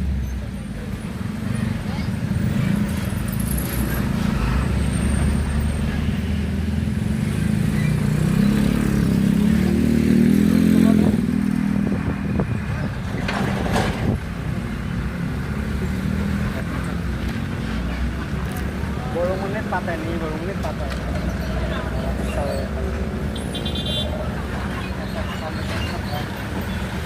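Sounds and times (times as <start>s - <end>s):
motorcycle and car engines running: 0.0s - 27.0s.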